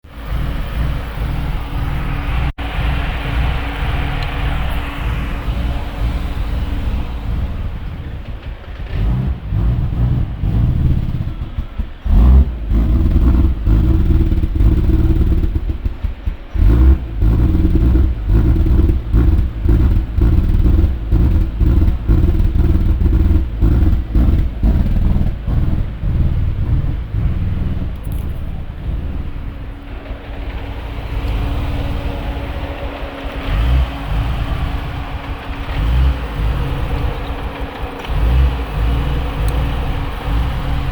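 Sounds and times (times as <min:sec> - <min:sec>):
car engine idling roughly: 0:00.0 - 0:40.9.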